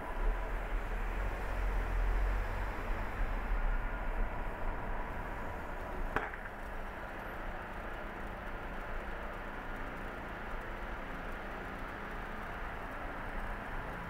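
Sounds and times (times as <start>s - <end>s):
faint road ambience: 0.0s - 14.0s.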